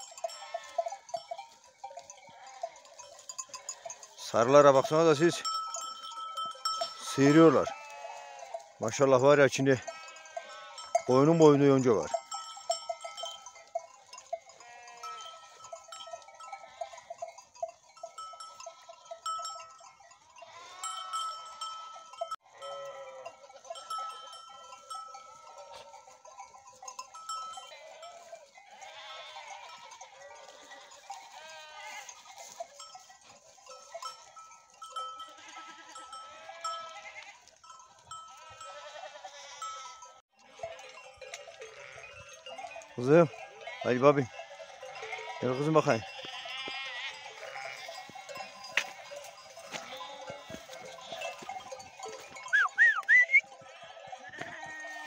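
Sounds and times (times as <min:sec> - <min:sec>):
animal bells ringing: 0:00.0 - 0:55.0
sheep and goats bleating: 0:00.0 - 0:55.0.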